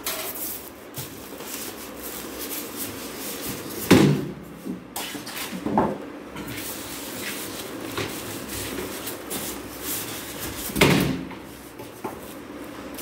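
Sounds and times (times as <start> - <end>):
foam packing and plastic rustling: 0.0 - 5.6, 6.5 - 13.0.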